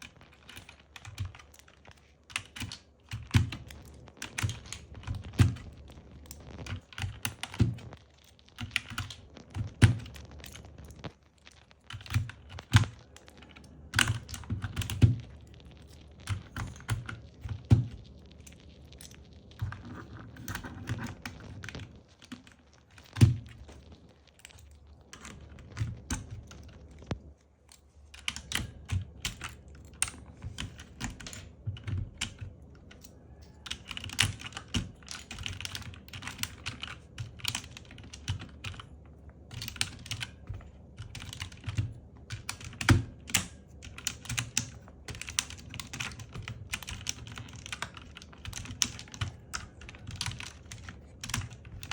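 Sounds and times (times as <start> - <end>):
mechanical keyboard typing: 0.0 - 51.9.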